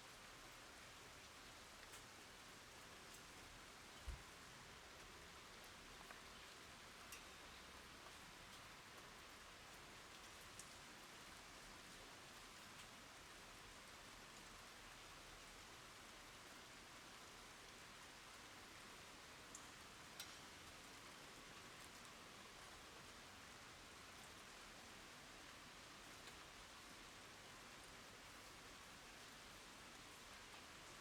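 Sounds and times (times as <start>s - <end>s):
rain hiss: 0.0s - 31.0s.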